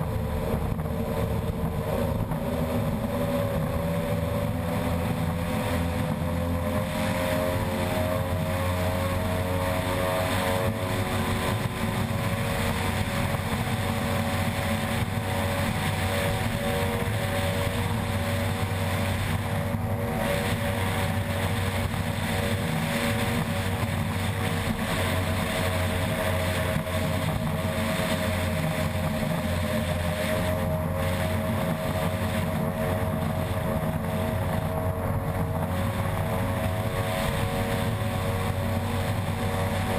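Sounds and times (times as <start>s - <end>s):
outboard engine running flat out: 0.0s - 39.9s.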